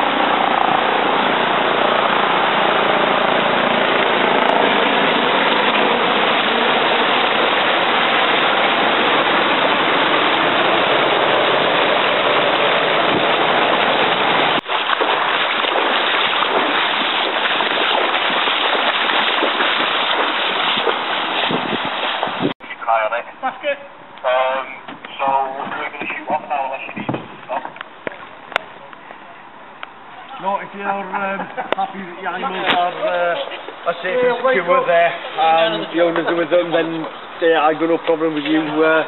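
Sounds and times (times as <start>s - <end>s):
floodwater rushing and splashing: 0.0s - 22.6s, 24.3s - 39.0s
people wading through water: 0.0s - 39.0s.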